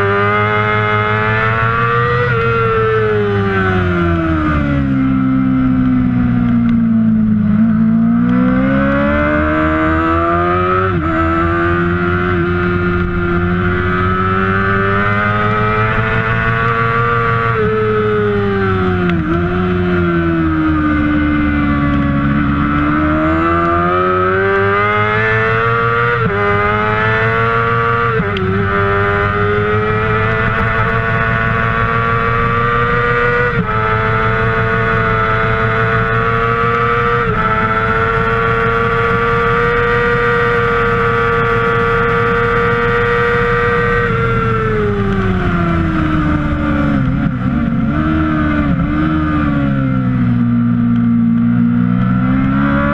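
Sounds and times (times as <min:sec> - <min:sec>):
motorcycle engine at full throttle: 0:00.0 - 0:52.9.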